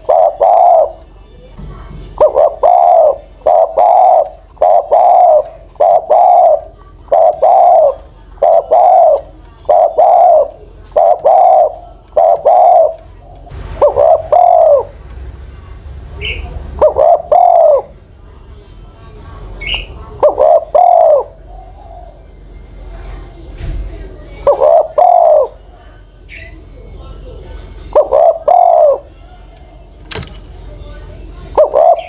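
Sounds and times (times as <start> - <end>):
dove cooing: 0.0 - 1.1, 2.1 - 15.0, 16.2 - 18.1, 19.2 - 30.0, 31.1 - 32.0.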